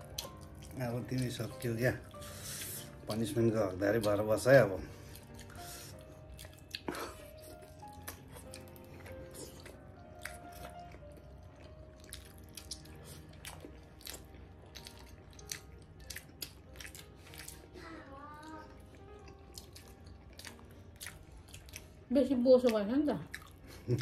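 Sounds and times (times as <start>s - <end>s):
people chewing with lip smacks: 0.0s - 3.2s, 3.8s - 24.0s
faint background music: 0.0s - 24.0s.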